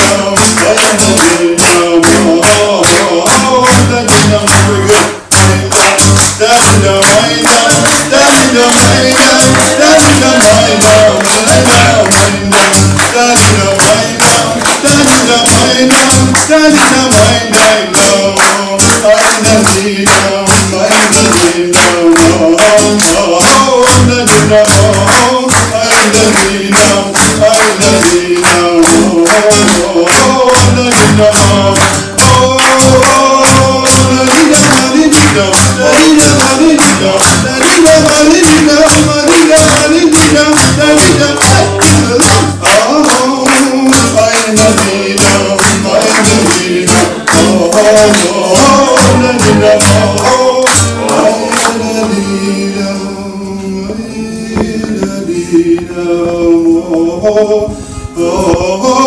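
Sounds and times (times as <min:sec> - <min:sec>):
audience clapping a beat: 0:00.0 - 0:52.6, 0:54.6 - 0:57.1, 0:58.2 - 0:59.0
acoustic guitar: 0:00.0 - 0:59.0
man singing: 0:00.0 - 0:59.0.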